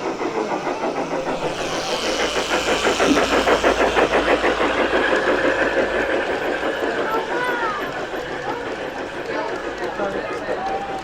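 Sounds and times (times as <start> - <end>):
model machine running: 0.0 - 11.0.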